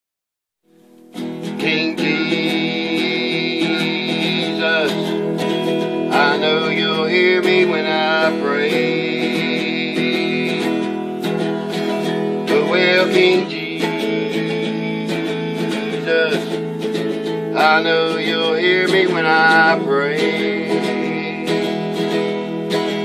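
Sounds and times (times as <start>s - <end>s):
country song with acoustic guitar: 0.8s - 23.0s
person singing: 1.2s - 23.0s.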